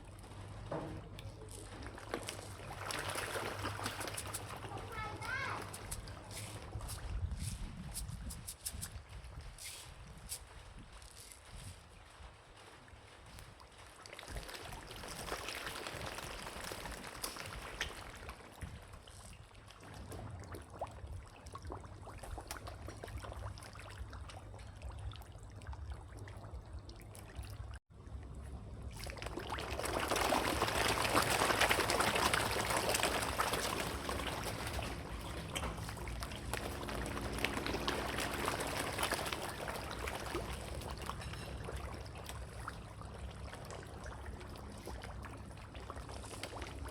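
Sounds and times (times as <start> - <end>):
water splashing and trickling: 0.0 - 46.9.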